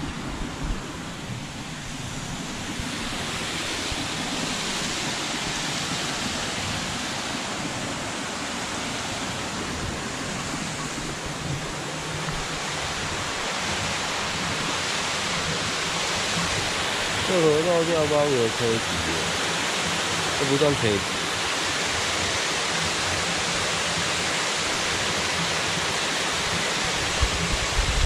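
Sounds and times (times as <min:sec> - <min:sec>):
water rushing over weir: 0:00.0 - 0:28.0.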